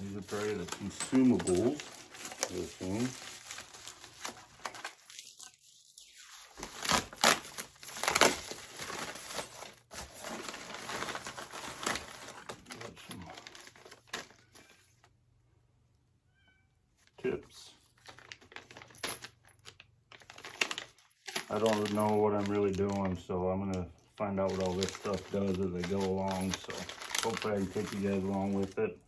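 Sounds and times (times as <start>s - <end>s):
plastic packaging crinkling: 0.0s - 14.9s, 17.9s - 23.2s, 24.2s - 28.8s.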